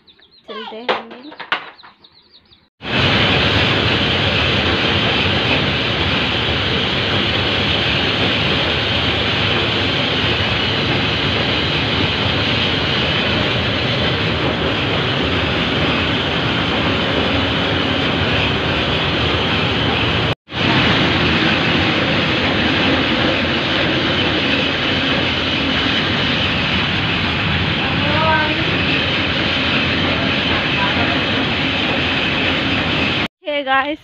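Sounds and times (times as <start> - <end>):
milling machinery running: 2.8 - 33.3.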